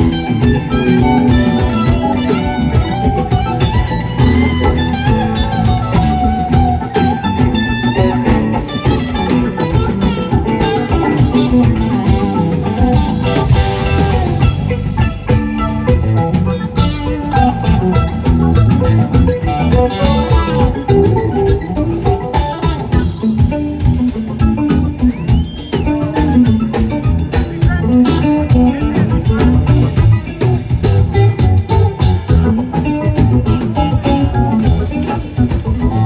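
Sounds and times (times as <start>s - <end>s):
bass: 0.0s - 36.0s
drum kit: 0.0s - 36.0s
guitar: 0.0s - 36.0s.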